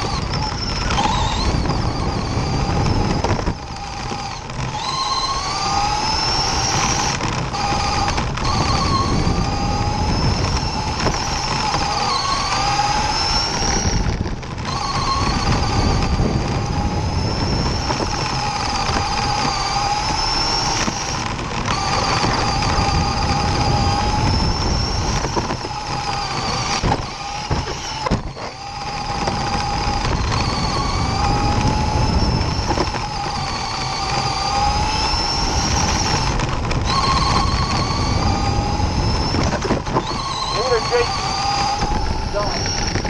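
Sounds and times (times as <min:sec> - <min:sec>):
rc car motor whining: 0:00.0 - 0:43.0
tyres rumbling on dirt: 0:00.0 - 0:43.0.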